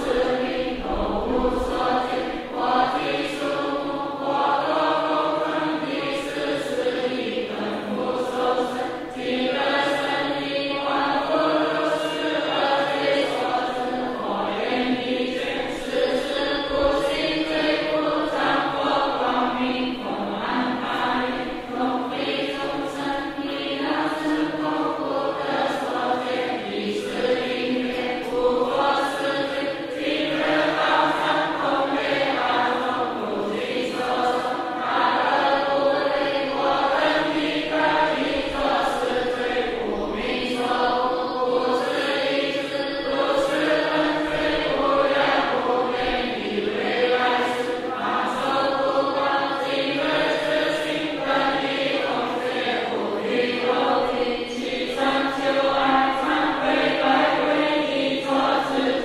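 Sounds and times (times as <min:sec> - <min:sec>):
crowd chanting in unison: 0:00.0 - 0:59.0.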